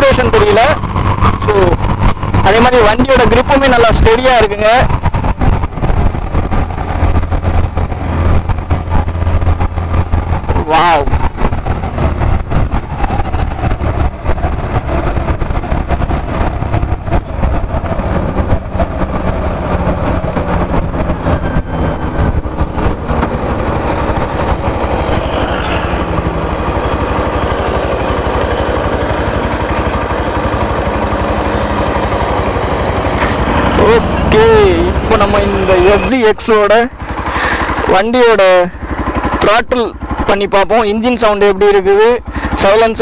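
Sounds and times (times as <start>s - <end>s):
wind buffeting microphone: 0.0s - 40.8s
motorcycle engine running: 0.0s - 43.0s.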